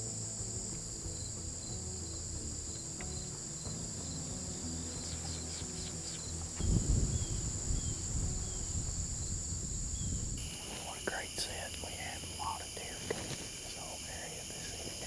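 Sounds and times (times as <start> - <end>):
low rumble: 0.0 - 13.7
crickets and insects trilling: 0.0 - 15.0
soft background music: 0.0 - 15.0.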